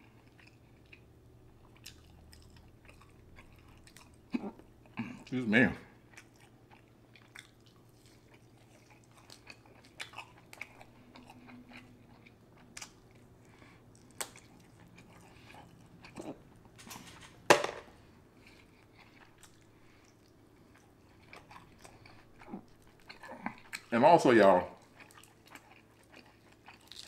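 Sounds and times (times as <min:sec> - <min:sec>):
wet chewing: 0:00.1 - 0:04.6, 0:06.1 - 0:16.7, 0:18.4 - 0:23.9, 0:24.8 - 0:27.0.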